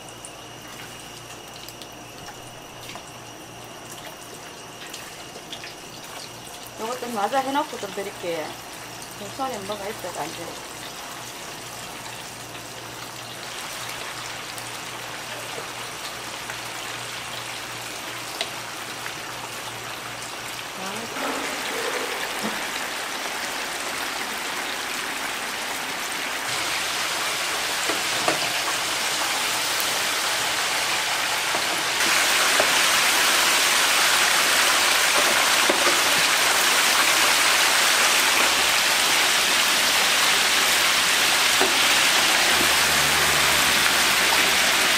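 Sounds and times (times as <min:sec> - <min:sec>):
chicken deep-frying in hot oil: 0:00.0 - 0:44.9.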